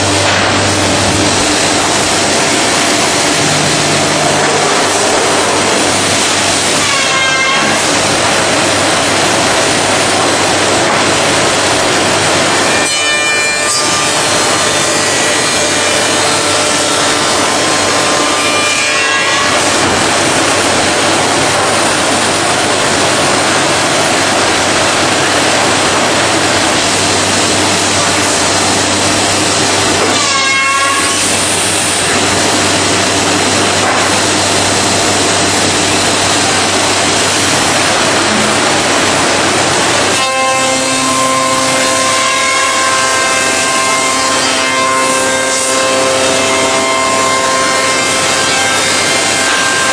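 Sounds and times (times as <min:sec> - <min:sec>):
machine cutting wood: 0:00.0 - 0:49.9.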